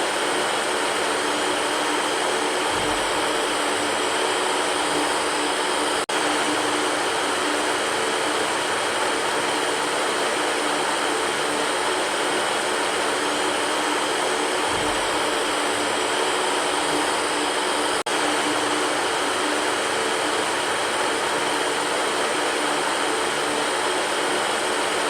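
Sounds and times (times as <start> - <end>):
electric fan running: 0.0 - 25.0.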